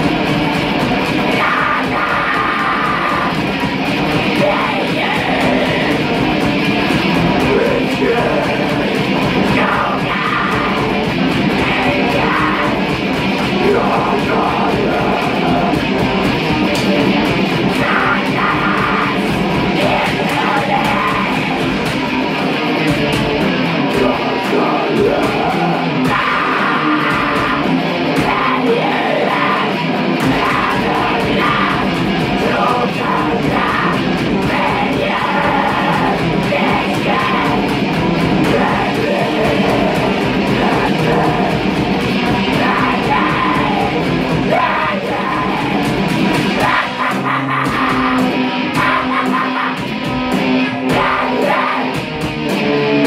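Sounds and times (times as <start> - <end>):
distorted electric guitar: 0.0 - 53.0
harsh vocals: 0.0 - 53.0.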